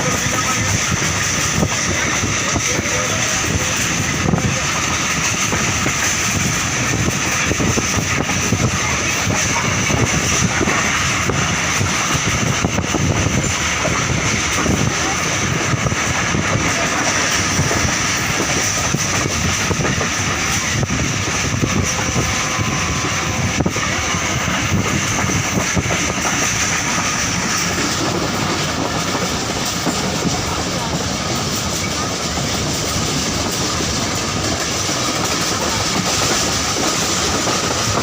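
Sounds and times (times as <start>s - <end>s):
train rumbling: 0.0s - 38.0s
wheels clattering on rails: 0.0s - 38.0s.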